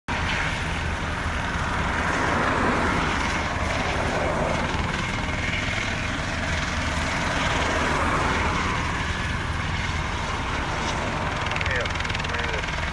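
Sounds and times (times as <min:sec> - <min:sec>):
helicopter rotor and engine: 0:00.1 - 0:12.9.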